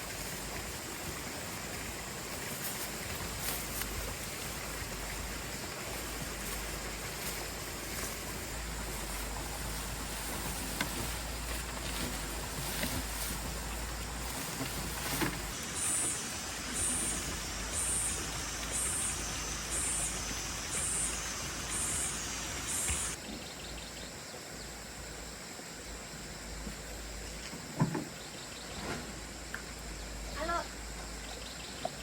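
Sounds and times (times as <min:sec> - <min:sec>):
rural ambience: 0:00.0 - 0:32.0.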